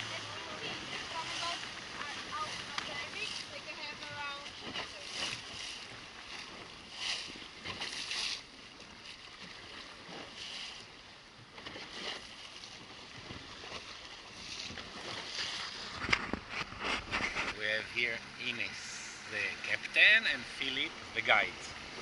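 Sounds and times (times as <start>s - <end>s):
water splashing against boat hull: 0.0s - 22.0s.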